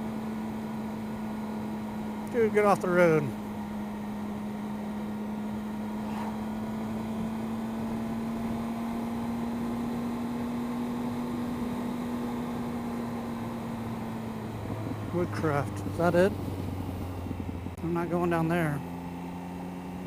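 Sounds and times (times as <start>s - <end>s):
motorcycle engine humming: 0.0s - 20.0s.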